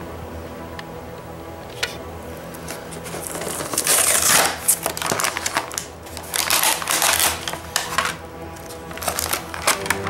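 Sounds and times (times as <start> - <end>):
plastic packaging crackling: 1.8 - 10.0.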